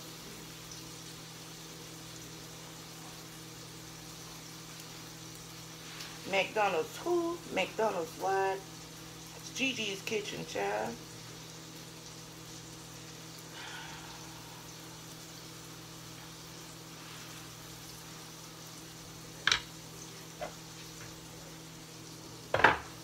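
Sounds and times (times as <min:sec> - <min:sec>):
bread sizzling in frying pan: 0:00.0 - 0:23.0.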